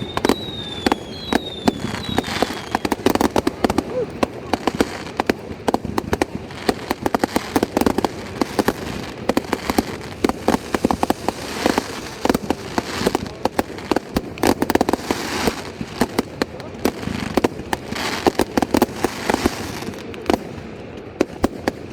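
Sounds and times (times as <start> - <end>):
fireworks popping and banging: 0.0 - 21.9.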